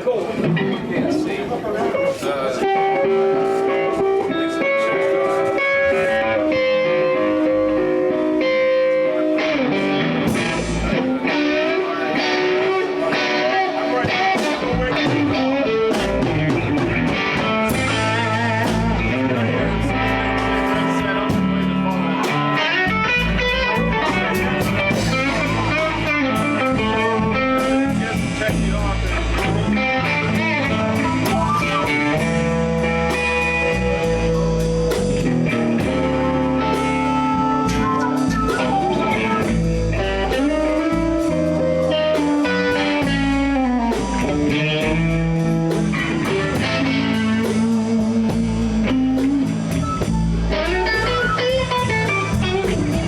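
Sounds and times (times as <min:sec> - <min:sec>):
blues band playing: 0:00.0 - 0:53.0
electric guitar: 0:00.0 - 0:53.0.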